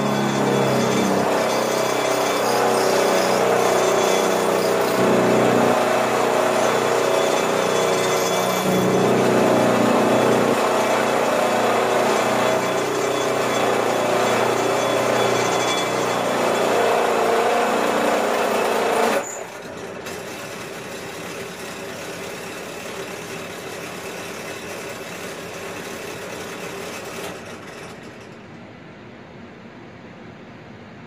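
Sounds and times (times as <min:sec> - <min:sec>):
drill press drilling metal: 0:00.0 - 0:28.5.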